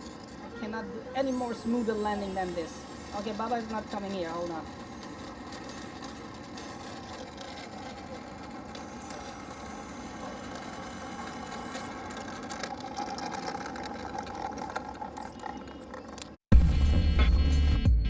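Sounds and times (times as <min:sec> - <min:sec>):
small motor whining: 0:00.0 - 0:16.5.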